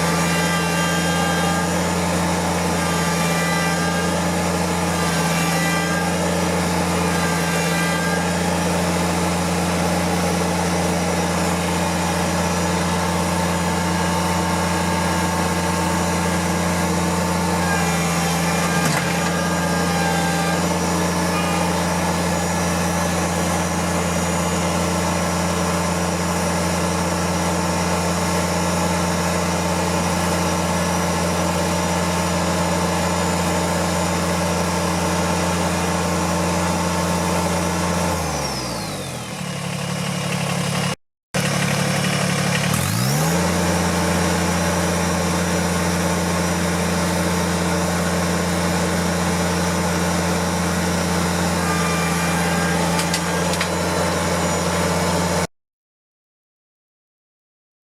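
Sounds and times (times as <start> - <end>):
tractor engine running: 0.0 - 55.5.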